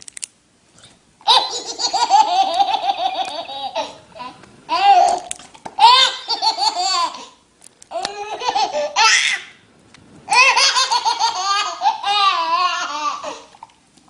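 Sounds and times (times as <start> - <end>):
baby laughing: 1.2 - 9.4, 10.3 - 13.5.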